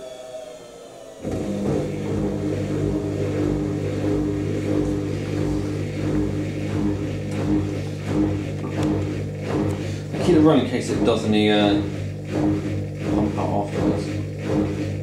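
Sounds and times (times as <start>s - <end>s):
drain pump humming: 0.0s - 15.0s.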